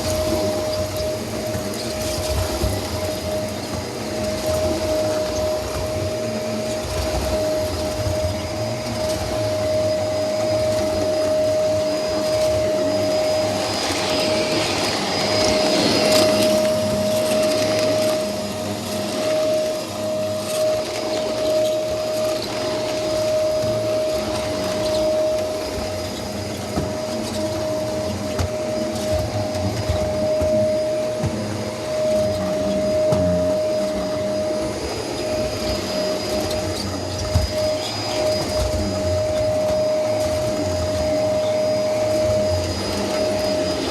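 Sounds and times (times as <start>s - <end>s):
vacuum cleaner motor whine: 0.0s - 43.9s.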